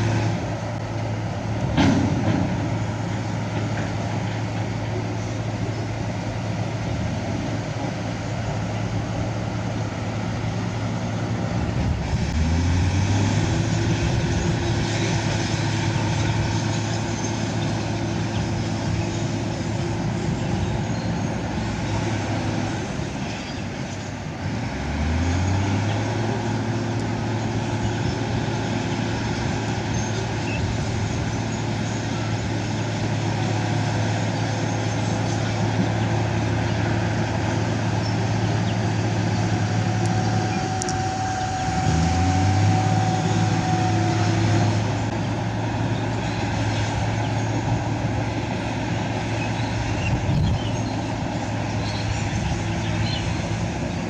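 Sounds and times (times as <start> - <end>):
diesel machinery engine revving: 0.0 - 54.0.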